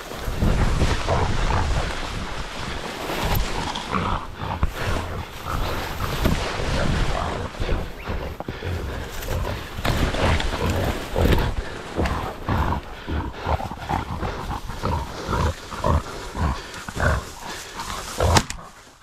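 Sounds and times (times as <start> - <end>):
wind on microphone: 0.0 - 16.0
animal grunting: 0.0 - 19.0
leaves and branches rustling: 0.0 - 19.0.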